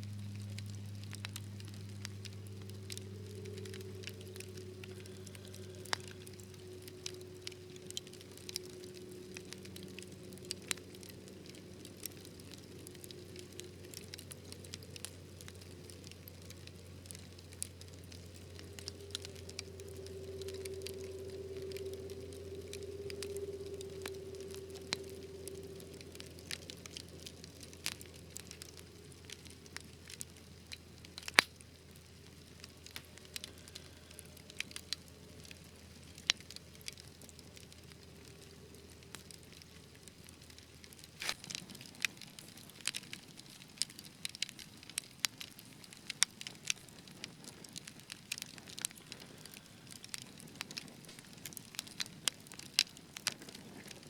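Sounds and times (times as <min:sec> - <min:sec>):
soft hiss: 0:00.0 - 0:54.0
wood fire crackling: 0:00.0 - 0:54.0.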